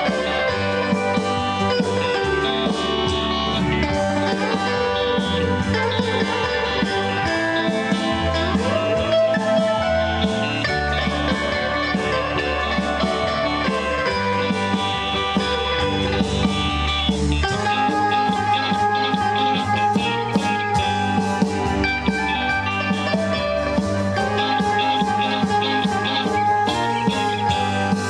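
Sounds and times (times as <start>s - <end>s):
electric guitar lead: 0.0s - 28.0s
live rock band playing: 0.0s - 28.0s.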